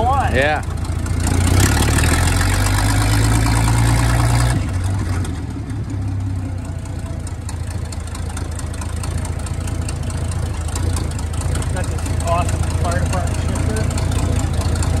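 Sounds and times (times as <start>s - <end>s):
old truck engine running: 0.0s - 15.0s.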